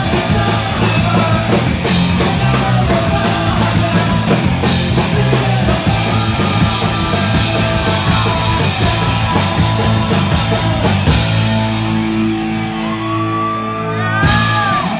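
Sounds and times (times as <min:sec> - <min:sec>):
distorted electric guitar: 0:00.0 - 0:14.9
drums: 0:00.0 - 0:14.9.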